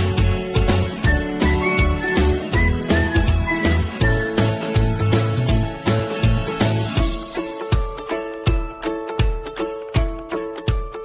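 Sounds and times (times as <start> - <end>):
upbeat music with bass and guitar: 0.0 - 11.0.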